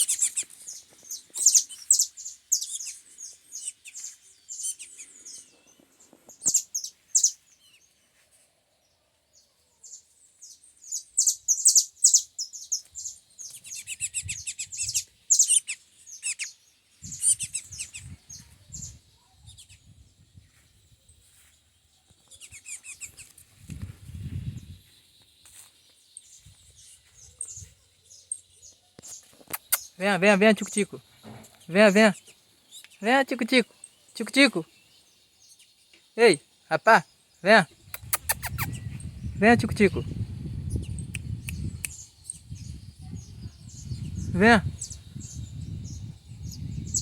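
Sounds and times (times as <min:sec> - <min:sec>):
songbird chirping and trilling: 0:00.0 - 0:47.0.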